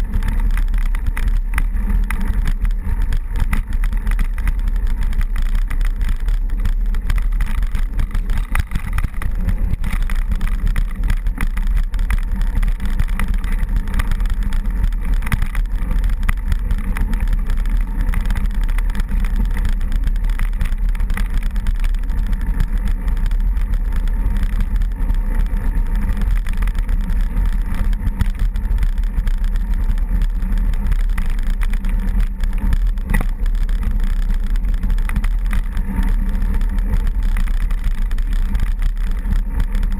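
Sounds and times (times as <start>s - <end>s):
bike rattling on dirt track: 0.0s - 39.9s.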